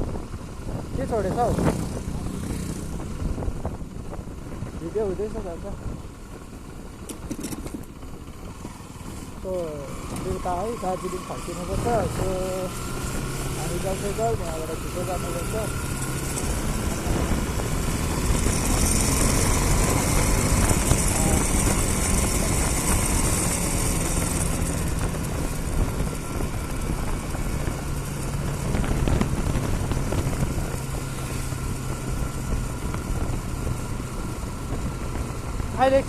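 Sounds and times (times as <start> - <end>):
motorcycle engine running: 0.0 - 36.0
wind rushing over microphone: 0.0 - 36.0.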